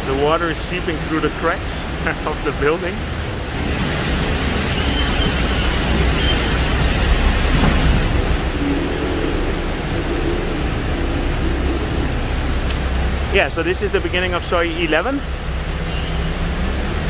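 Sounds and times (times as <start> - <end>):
heavy rain: 0.0 - 17.0
running water: 0.0 - 17.0
low rumble: 0.8 - 14.6.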